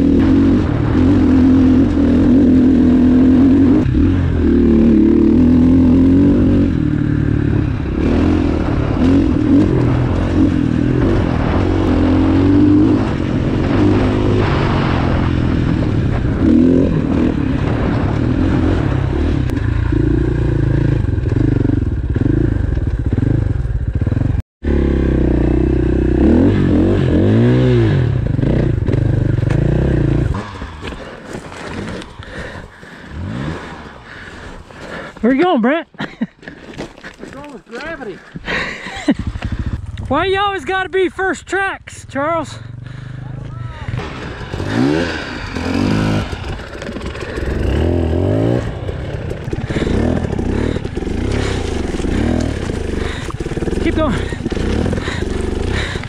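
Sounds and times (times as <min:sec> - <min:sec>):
dirt bike engine revving: 0:00.0 - 0:36.1, 0:37.8 - 0:56.0.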